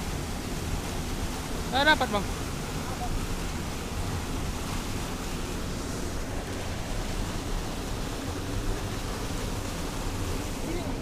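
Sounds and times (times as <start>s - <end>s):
river water over waterfall: 0.0s - 11.0s.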